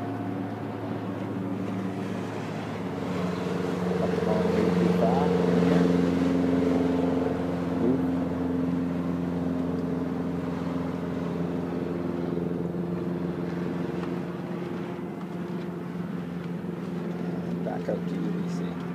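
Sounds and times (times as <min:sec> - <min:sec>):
motorboat engine humming: 0:00.0 - 0:18.9
water rushing: 0:00.0 - 0:18.9
wind: 0:00.0 - 0:18.9.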